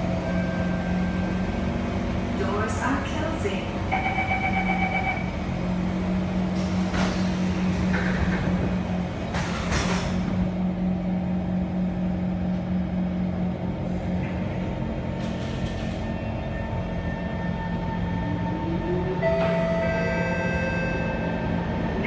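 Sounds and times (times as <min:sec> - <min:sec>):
train interior hum and rumble: 0:00.0 - 0:22.0.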